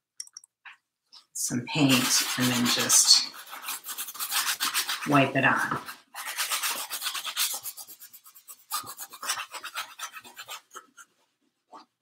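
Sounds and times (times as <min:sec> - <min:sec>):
rag rubbing paint on canvas: 0:01.7 - 0:12.0.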